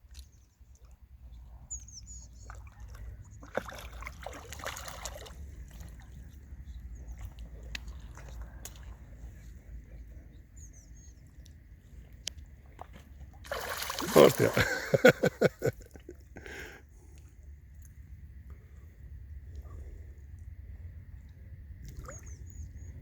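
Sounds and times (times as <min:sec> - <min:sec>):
water splashing and sloshing: 0:00.0 - 0:18.8, 0:21.2 - 0:22.9.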